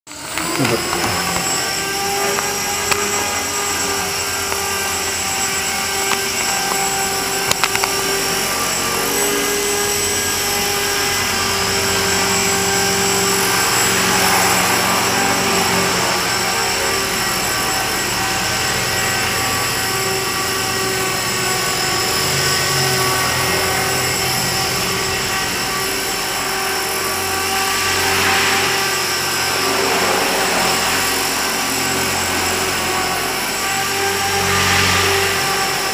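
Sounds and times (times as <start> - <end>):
motor and gear whine: 0.1 - 35.9
rotor blades whirring: 0.1 - 35.9.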